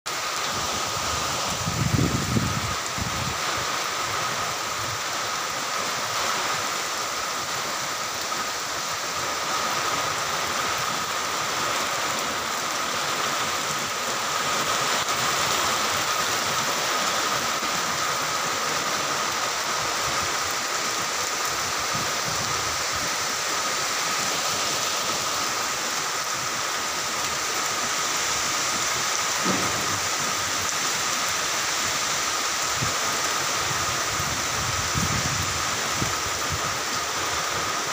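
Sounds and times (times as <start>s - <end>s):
rain falling steadily: 0.1s - 37.9s.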